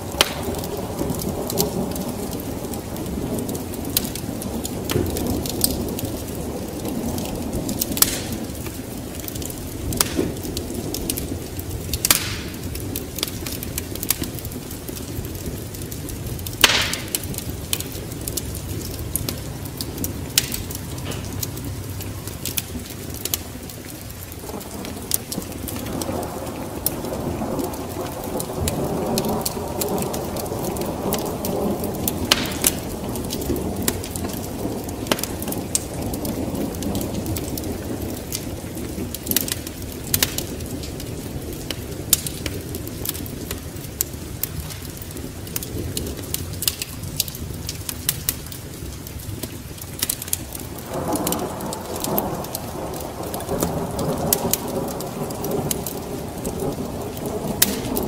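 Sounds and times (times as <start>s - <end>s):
low rumble of thunder: 0.0s - 47.7s, 50.4s - 58.0s
steady rain: 0.0s - 58.0s
wood fire crackling and popping: 0.0s - 58.0s.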